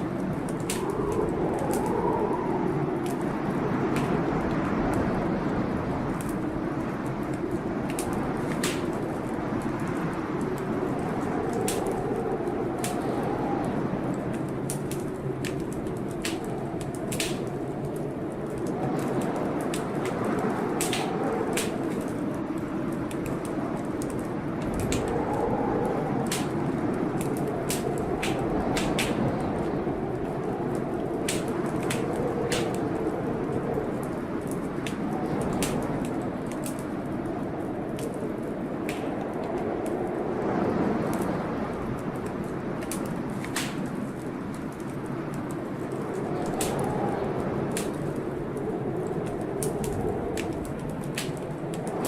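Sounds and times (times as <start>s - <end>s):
rushing storm noise: 0.0s - 52.0s
wood fire crackling: 0.0s - 52.0s.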